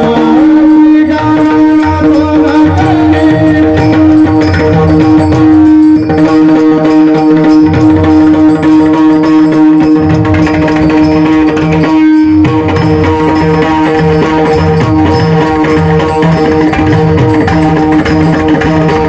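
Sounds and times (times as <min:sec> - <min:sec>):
hand drum rhythm: 0:00.0 - 0:19.0
held drone note: 0:00.0 - 0:19.0.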